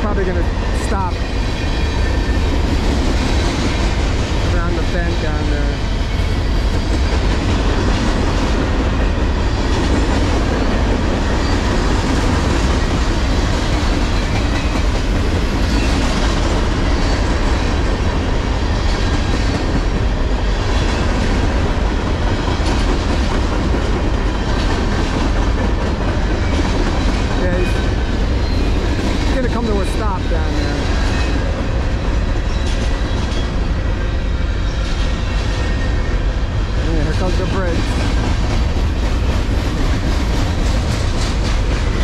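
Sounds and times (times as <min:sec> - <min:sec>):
freight train wheels rumbling and clattering: 0:00.0 - 0:42.0.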